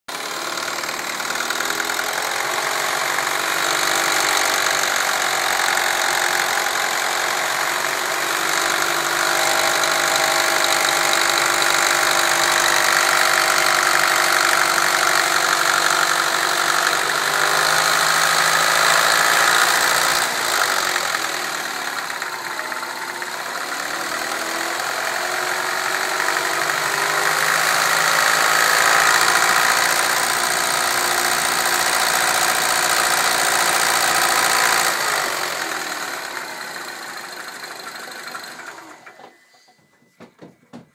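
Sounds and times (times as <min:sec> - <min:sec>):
car engine running: 0:00.1 - 0:39.4.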